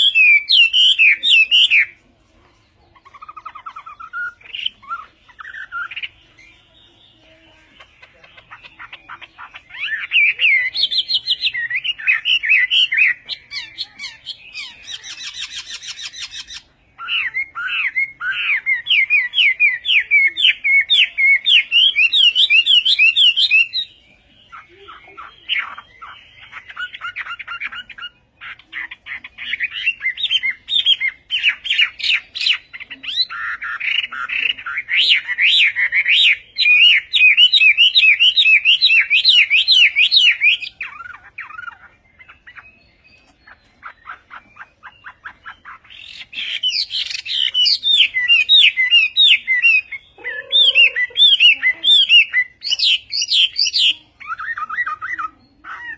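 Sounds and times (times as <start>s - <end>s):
bird singing whistled notes: 0.0s - 2.0s, 8.4s - 55.9s
bird chattering notes: 2.7s - 55.9s.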